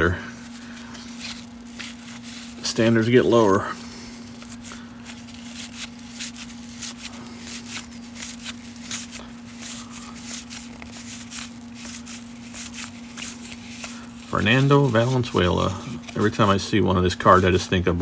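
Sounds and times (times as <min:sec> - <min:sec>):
cardboard cards clicking and rustling: 0:00.4 - 0:03.2, 0:04.2 - 0:16.6.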